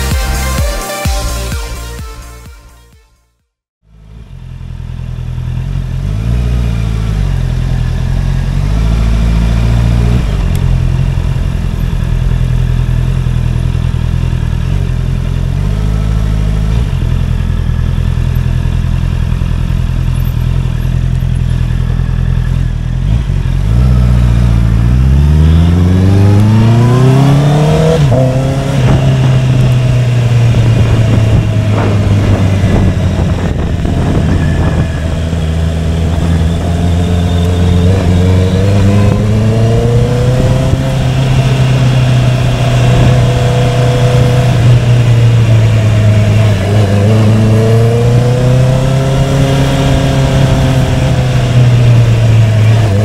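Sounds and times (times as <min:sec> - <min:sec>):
motorcycle engine: 0:03.8 - 0:53.0.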